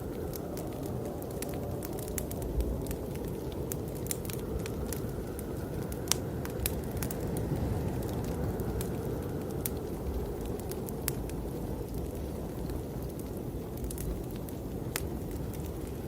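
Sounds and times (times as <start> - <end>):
blizzard wind rushing: 0.0 - 16.0
fireplace crackling: 0.0 - 16.0.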